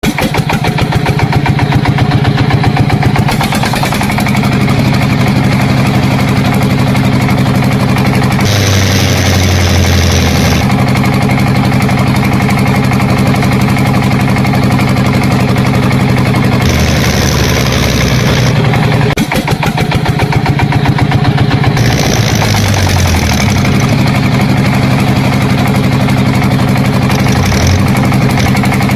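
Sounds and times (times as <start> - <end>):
engine idling: 0.0 - 28.9
rough hissing engine: 0.1 - 19.2, 21.2 - 28.9.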